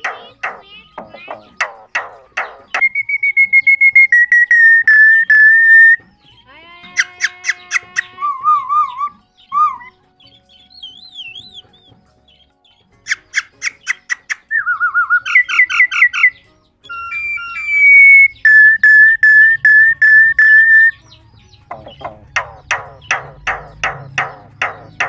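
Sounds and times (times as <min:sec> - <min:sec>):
myna whistling and chirping: 0:00.0 - 0:25.0.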